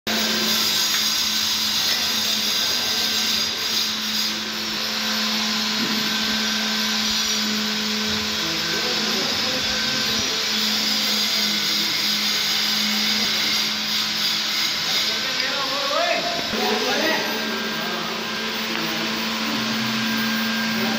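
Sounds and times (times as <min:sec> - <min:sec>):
electric motor humming: 0:00.1 - 0:20.9.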